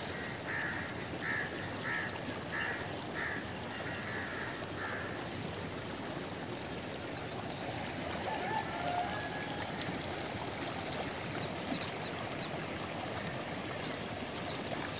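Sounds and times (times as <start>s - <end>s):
running water stream: 0.0s - 14.9s.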